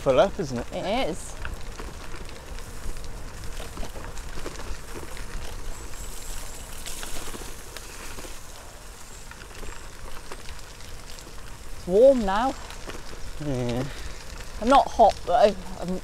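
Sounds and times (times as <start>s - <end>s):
bike tyres rolling on gravel: 0.0s - 16.0s.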